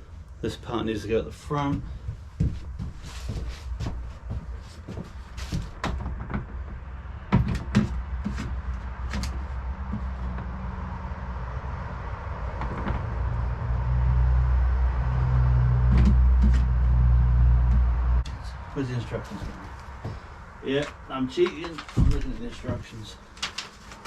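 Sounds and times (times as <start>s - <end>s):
vehicle engine rumble: 1.2s - 24.0s.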